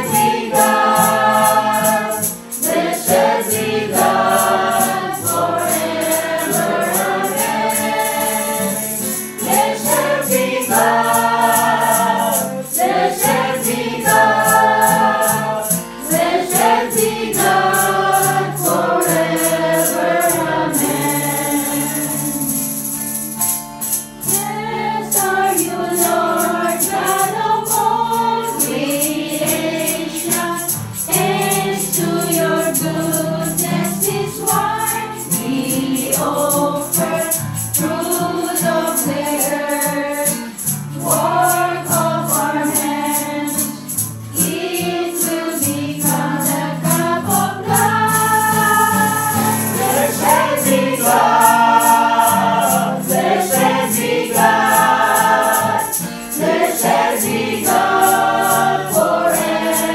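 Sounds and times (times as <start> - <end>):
choir singing: 0.0 - 23.4, 24.2 - 59.9
strummed acoustic guitar: 0.0 - 59.9.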